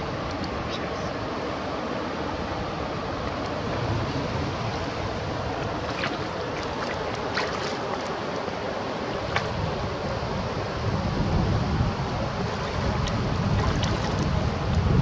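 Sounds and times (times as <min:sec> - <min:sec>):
water washing along shoreline: 0:00.0 - 0:15.0.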